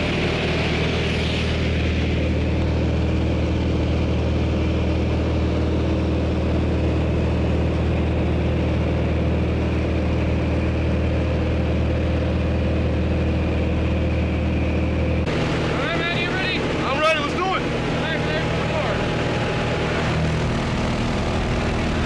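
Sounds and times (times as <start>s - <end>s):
plane engine and propeller drone: 0.0s - 22.0s.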